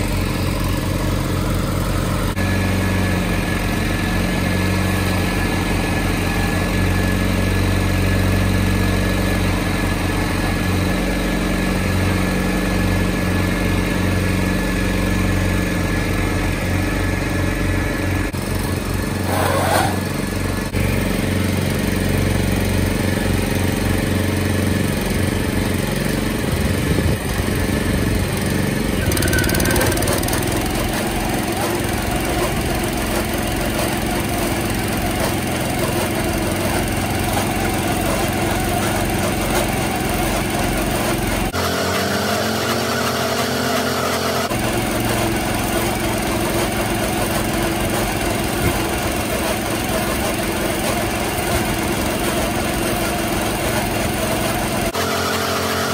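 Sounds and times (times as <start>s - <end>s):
tractor diesel engine idling: 0.0s - 41.7s, 44.4s - 55.0s
small gas engine running: 0.0s - 55.9s.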